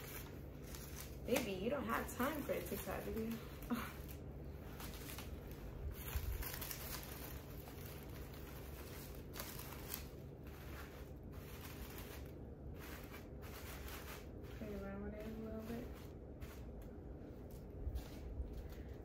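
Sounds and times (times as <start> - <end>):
soft rustling and handling: 0.0 - 19.0
steady low hum and hiss: 0.0 - 19.0.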